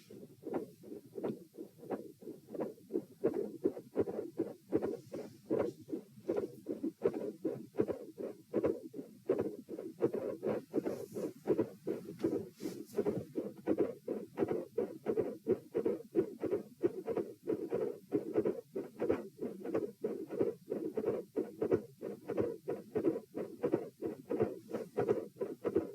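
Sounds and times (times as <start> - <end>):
heartbeat through stethoscope: 0.0 - 25.9.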